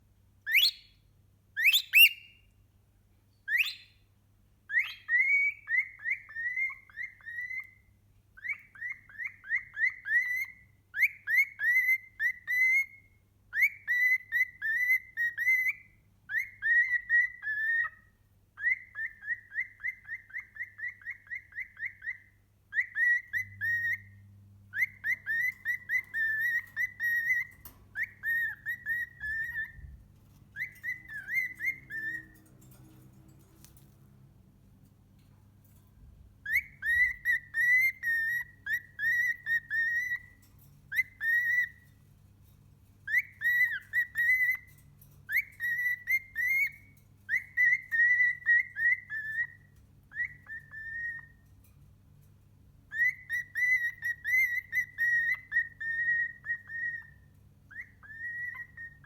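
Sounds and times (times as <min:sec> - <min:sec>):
cockatiel whistling: 0:00.4 - 0:01.0, 0:01.6 - 0:02.5, 0:03.5 - 0:04.0, 0:04.7 - 0:32.5, 0:36.4 - 0:41.9, 0:43.0 - 0:51.4, 0:52.9 - 0:59.0
cockatiel chirping: 0:00.4 - 0:02.6, 0:03.4 - 0:04.0, 0:04.7 - 0:34.0, 0:36.4 - 0:51.7, 0:52.8 - 0:59.0.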